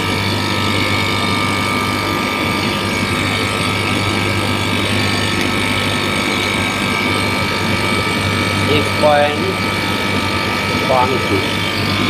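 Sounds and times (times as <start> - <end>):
air conditioning compressor humming: 0.0 - 12.0
high-pitched whine: 0.0 - 12.0.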